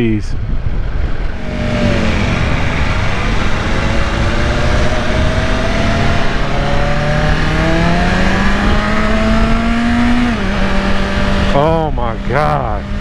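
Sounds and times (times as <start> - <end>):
wind noise: 0.0 - 13.0
motorcycle engine accelerating: 0.8 - 13.0.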